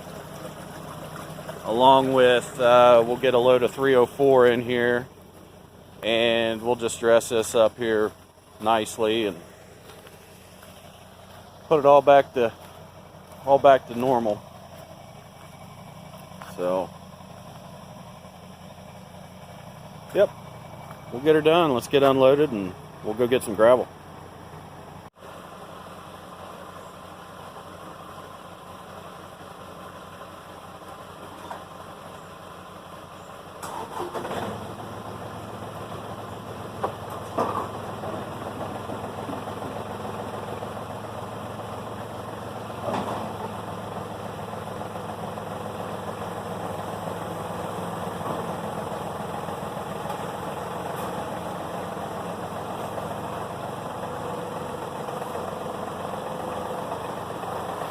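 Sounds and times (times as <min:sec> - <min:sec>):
engine knocks: 0:00.0 - 0:23.6, 0:33.1 - 0:57.9
tractor engine idling: 0:00.0 - 0:57.9.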